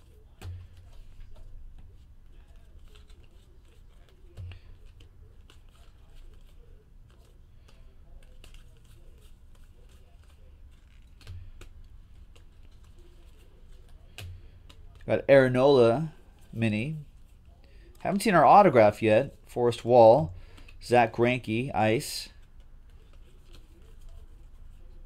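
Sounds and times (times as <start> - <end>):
cards flipped by hand: 0.0 - 25.0.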